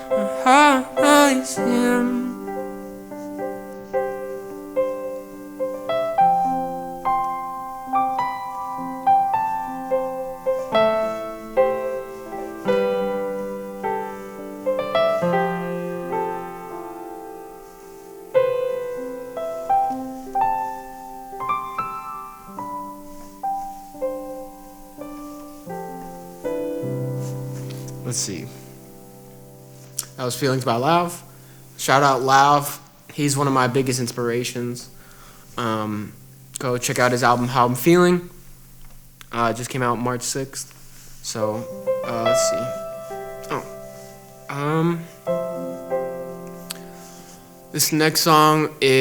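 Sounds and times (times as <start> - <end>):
slow solo piano: 0.0 - 39.6, 40.7 - 49.0.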